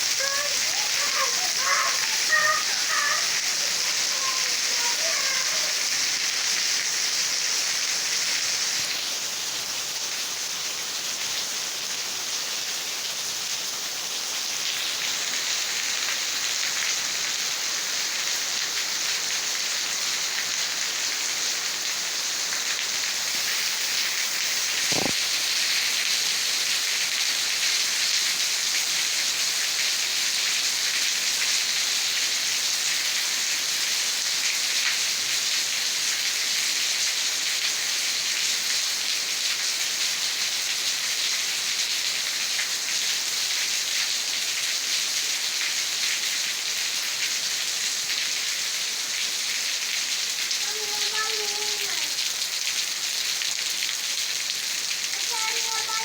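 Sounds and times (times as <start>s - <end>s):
rain falling on vegetation: 0.0s - 56.0s.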